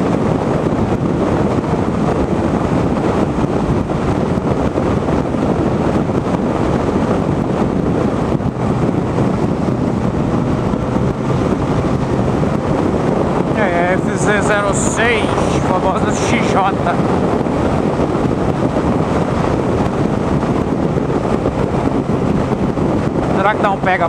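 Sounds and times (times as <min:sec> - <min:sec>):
motorcycle engine running: 0:00.0 - 0:23.6
wind rushing over microphone: 0:00.0 - 0:24.0.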